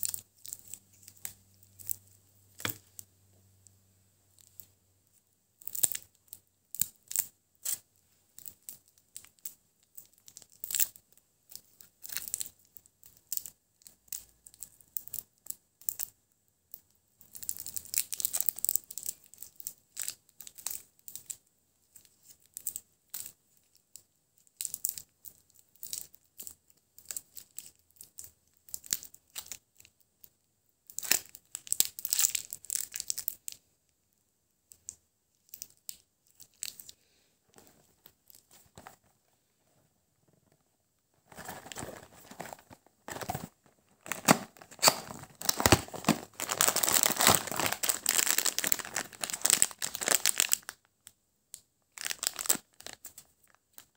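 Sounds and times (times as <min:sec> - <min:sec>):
candy wrapper crinkling: 0:00.0 - 0:03.0, 0:05.6 - 0:33.6, 0:34.7 - 0:39.3, 0:41.2 - 0:53.9.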